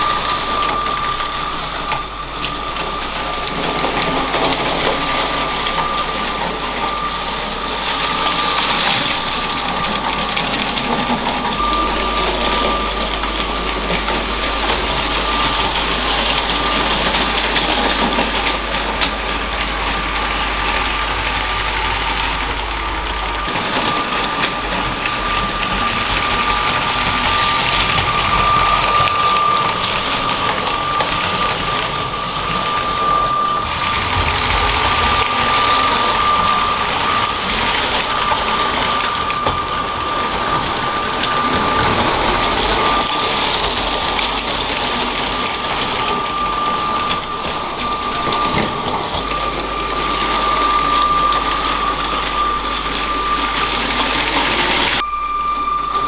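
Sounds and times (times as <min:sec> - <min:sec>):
toy train motor whine: 0:00.0 - 0:56.0
wheels rattling on plastic track: 0:00.0 - 0:56.0.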